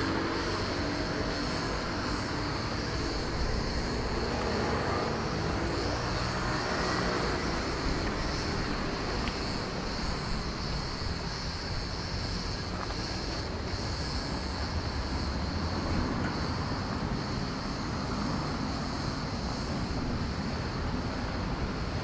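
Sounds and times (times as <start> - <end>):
high hiss: 0.0 - 22.0.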